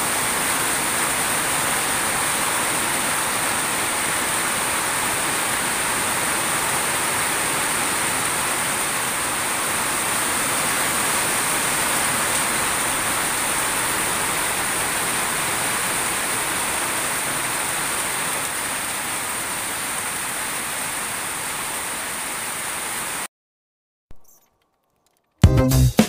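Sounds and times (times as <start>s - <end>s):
heavy rain on leaves and boards: 0.0s - 23.3s.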